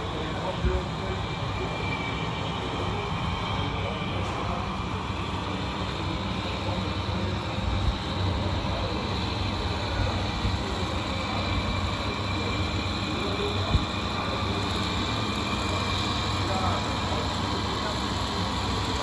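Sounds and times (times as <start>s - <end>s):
model trucks mechanical hum: 0.0s - 19.0s.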